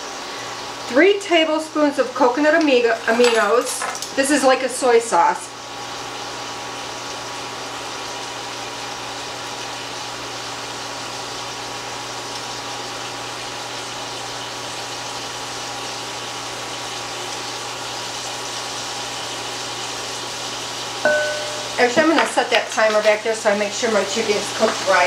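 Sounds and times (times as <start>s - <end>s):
chicken frying hiss: 0.0s - 25.0s
cooktop mechanical hum: 0.0s - 25.0s.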